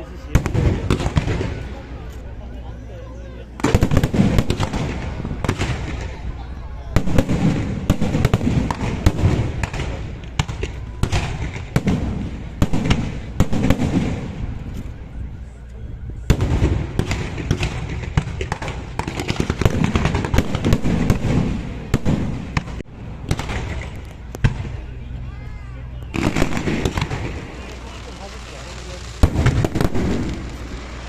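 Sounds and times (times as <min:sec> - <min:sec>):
fireworks bangs and crackles: 0:00.0 - 0:02.4, 0:03.4 - 0:31.0.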